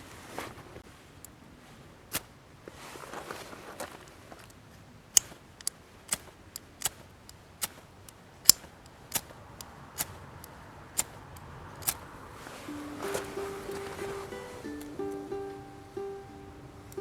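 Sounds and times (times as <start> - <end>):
faint hiss: 0.0 - 17.0
campfire crackling: 0.1 - 17.0.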